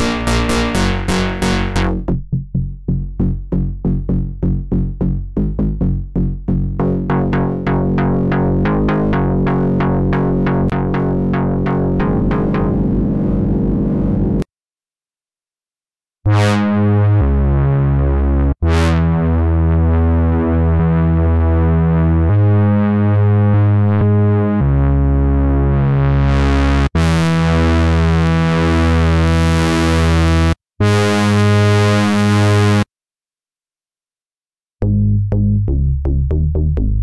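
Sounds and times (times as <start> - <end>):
buzzy synth bass notes: 0.0 - 14.5, 16.3 - 32.9, 34.8 - 37.0.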